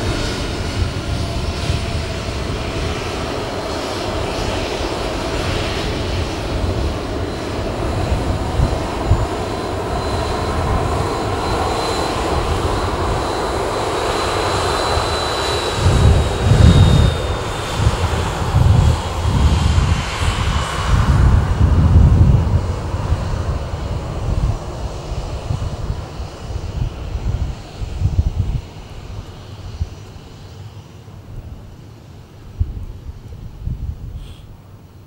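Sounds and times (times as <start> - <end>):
wind buffeting microphone: 0.0 - 30.5, 32.4 - 34.7
jet engines spooling down: 0.0 - 34.9.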